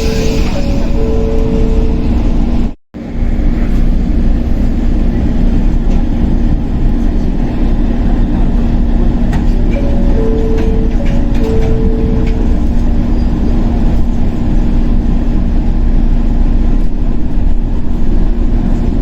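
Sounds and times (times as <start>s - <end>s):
train wheels and motors rumbling: 0.0s - 19.0s.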